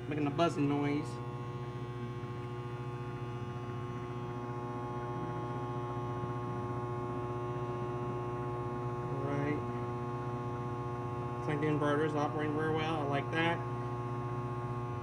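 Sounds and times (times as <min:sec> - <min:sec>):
microwave electrical buzz: 0:00.0 - 0:15.0.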